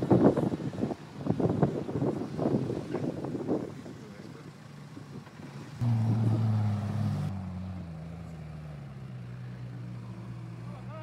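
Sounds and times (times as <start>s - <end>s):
vehicle engine running: 1.8s - 11.0s.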